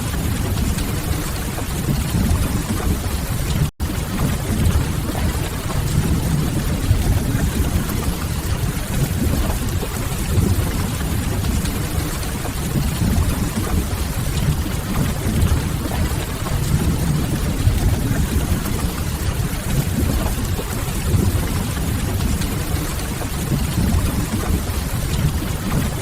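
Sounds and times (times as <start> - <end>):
rain on a window: 0.0 - 26.0.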